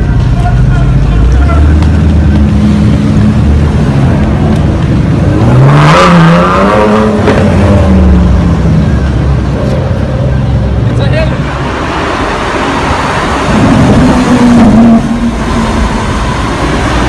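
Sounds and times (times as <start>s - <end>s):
car engine revving: 0.0s - 17.0s
low rumble of engines: 0.0s - 17.0s.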